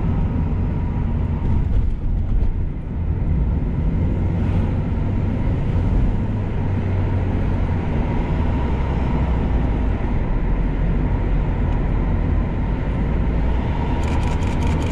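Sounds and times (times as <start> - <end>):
vehicle road rumble: 0.0 - 14.9.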